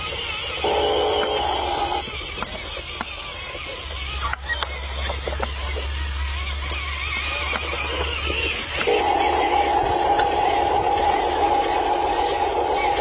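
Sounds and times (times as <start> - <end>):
buzzing machine sound: 0.0 - 13.0
cartoon engine hum: 0.0 - 13.0.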